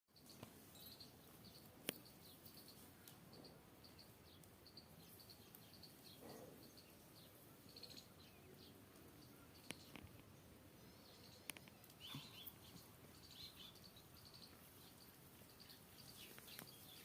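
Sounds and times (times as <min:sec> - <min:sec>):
faint high-pitched chirps: 0:00.1 - 0:17.0.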